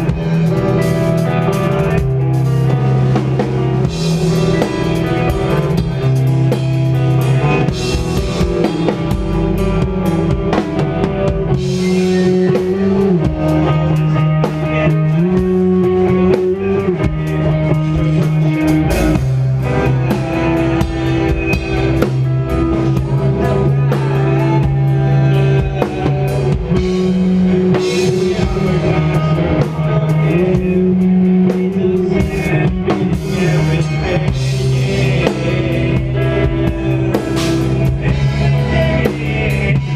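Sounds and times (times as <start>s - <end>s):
loud live rock band: 0.0s - 39.9s.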